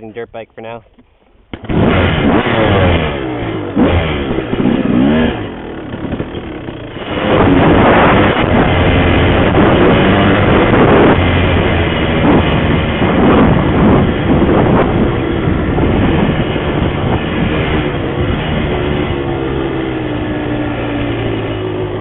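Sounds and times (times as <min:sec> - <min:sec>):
dirt bike engine revving: 0:00.8 - 0:22.0.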